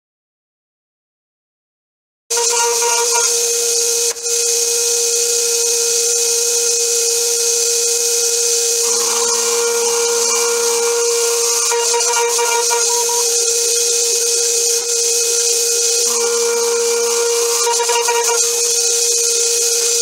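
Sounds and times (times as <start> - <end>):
cutting hiss: 2.3 - 20.0
milling spindle whining: 2.3 - 20.0.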